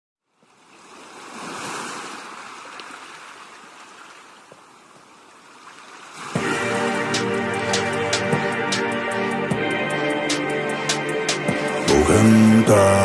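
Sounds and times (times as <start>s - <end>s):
ocean wave washing: 0.6s - 4.5s, 5.3s - 12.6s.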